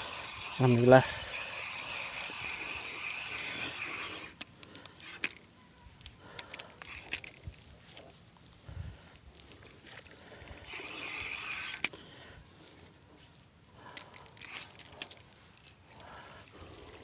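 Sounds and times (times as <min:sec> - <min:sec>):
fishing reel clicks: 0:00.0 - 0:08.1, 0:09.4 - 0:12.1, 0:13.8 - 0:17.0
fishing reel whirring: 0:00.0 - 0:08.1, 0:08.7 - 0:17.0.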